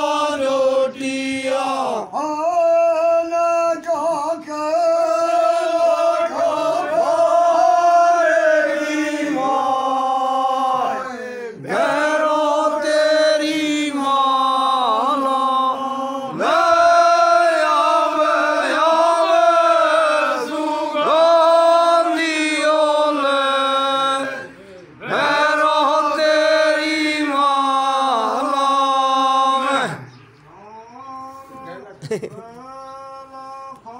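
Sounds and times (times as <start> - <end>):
men singing a chant: 0.0 - 32.0.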